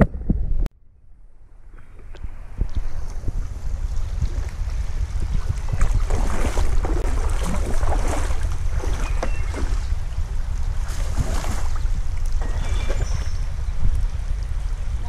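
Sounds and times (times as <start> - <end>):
wind buffeting microphone: 0.0 - 0.7, 1.5 - 15.0.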